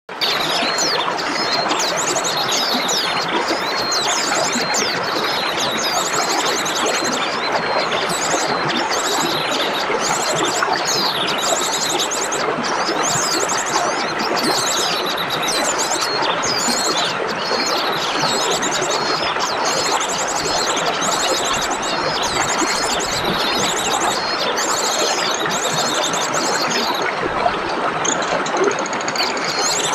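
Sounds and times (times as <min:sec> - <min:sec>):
running water: 0:00.1 - 0:29.9
songbirds trilling: 0:00.2 - 0:29.9.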